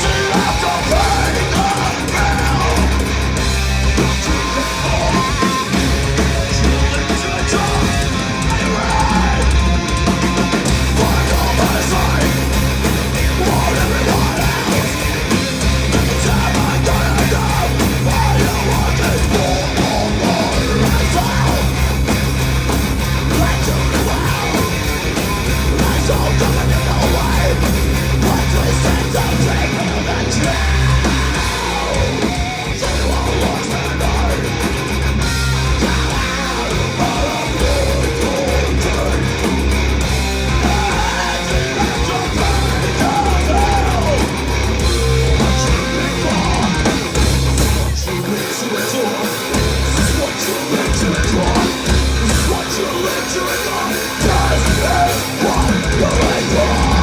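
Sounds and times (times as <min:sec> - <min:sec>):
bass guitar: 0:00.0 - 0:57.0
drums: 0:00.0 - 0:57.0
electric guitars: 0:00.0 - 0:57.0
heavy metal band playing live: 0:00.0 - 0:57.0.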